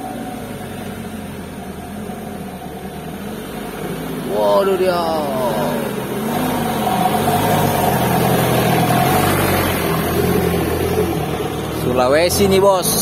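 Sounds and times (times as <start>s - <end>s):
diesel truck engine under load: 0.0s - 13.0s.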